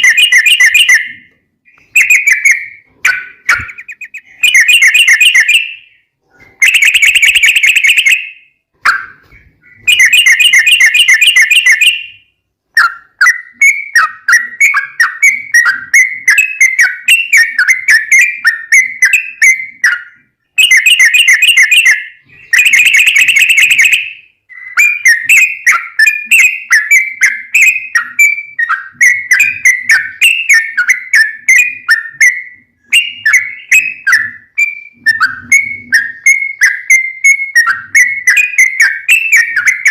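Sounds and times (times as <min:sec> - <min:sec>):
bird singing trilled bursts: 0:00.0 - 0:39.9.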